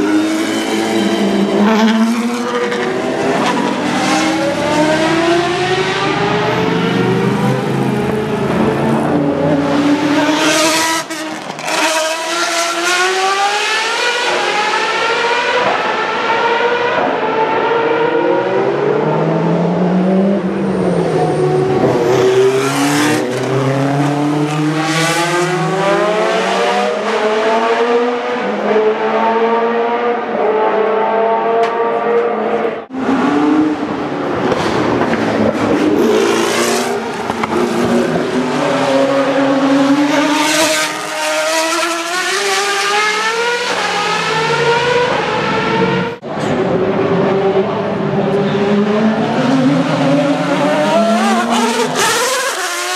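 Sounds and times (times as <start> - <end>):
racing car engines revving: 0.0 - 52.9.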